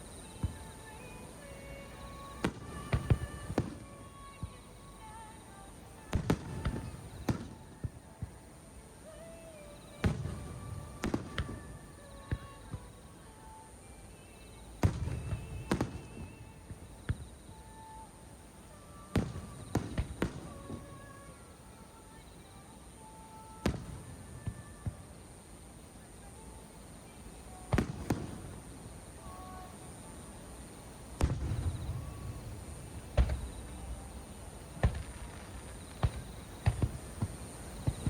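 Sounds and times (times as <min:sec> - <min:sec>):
fireworks bursting with sharp bangs: 0:00.0 - 0:38.0.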